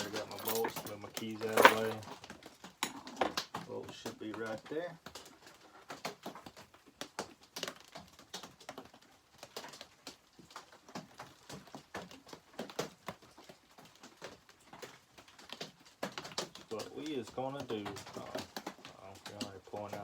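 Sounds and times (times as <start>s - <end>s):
rain pattering on a roof: 0.0s - 20.0s.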